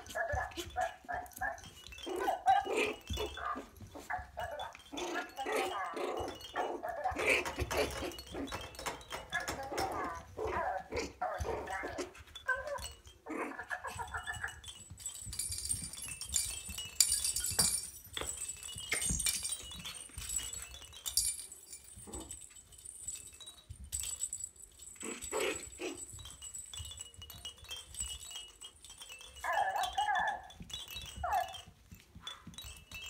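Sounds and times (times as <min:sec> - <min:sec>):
puppies yipping and growling: 0:00.0 - 0:20.8, 0:21.9 - 0:22.6, 0:24.9 - 0:27.0, 0:29.3 - 0:32.8
bell toy jingling: 0:00.0 - 0:33.0.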